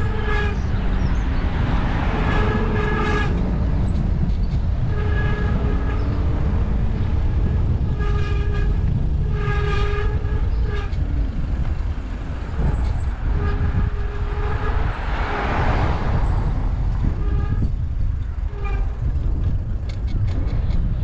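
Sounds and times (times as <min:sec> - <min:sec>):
horn blasts: 0:00.0 - 0:11.1, 0:12.6 - 0:18.9
deep rumble: 0:00.0 - 0:21.0.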